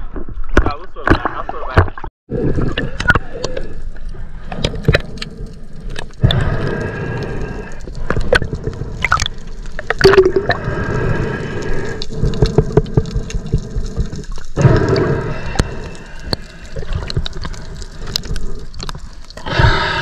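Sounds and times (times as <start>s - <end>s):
underwater gurgling: 1.0s - 20.0s.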